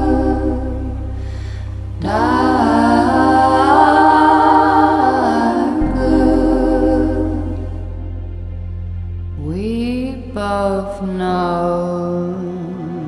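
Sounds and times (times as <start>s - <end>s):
woman singing: 0.0s - 1.1s, 2.0s - 7.9s, 9.4s - 13.0s
orchestral backing: 0.0s - 10.6s.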